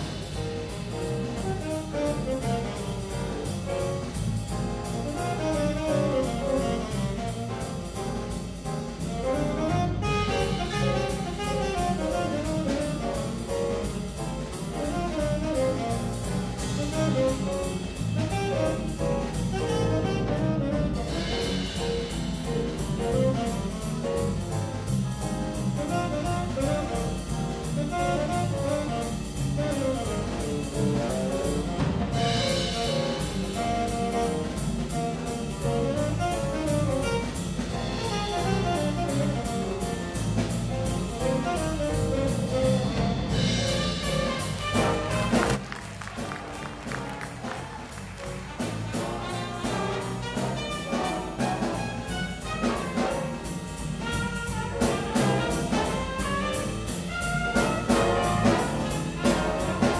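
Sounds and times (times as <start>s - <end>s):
jazz big band playing: 0.0s - 59.9s
saxophone solo: 4.9s - 8.1s, 9.0s - 13.8s, 14.7s - 21.8s, 25.8s - 59.9s.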